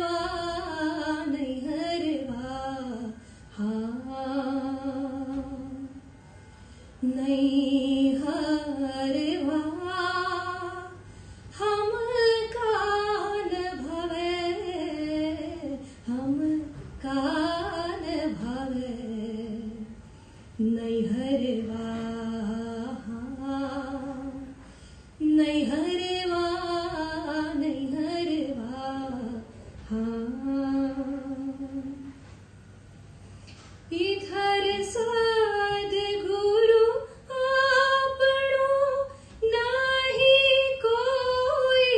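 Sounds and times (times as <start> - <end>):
woman singing devotional song: 0.0 - 6.1, 7.0 - 20.0, 20.6 - 24.6, 25.2 - 32.2, 33.9 - 41.9.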